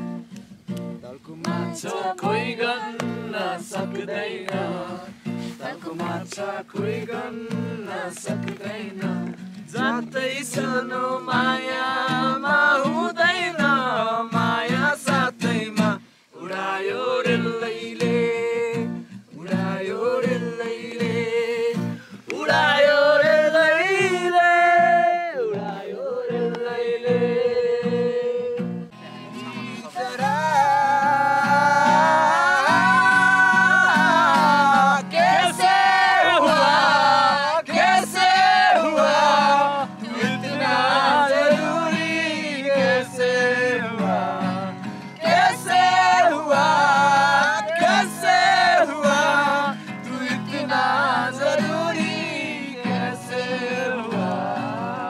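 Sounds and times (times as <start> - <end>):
strummed guitar: 0.0 - 55.0.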